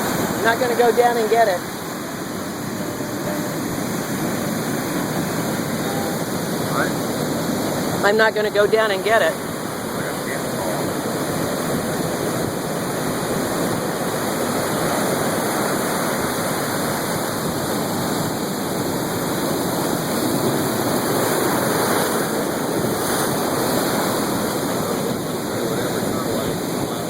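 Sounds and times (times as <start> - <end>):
ocean surf and breaking waves: 0.0 - 27.0.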